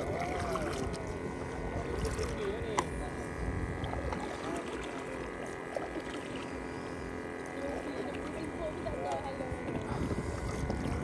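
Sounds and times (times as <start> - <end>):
water lapping against boat: 0.0 - 11.0.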